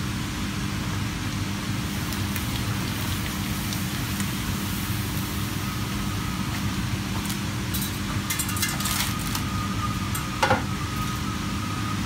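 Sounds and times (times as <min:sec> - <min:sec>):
low machine hum: 0:00.0 - 0:12.0
hot oil crackling and spitting: 0:00.8 - 0:12.0.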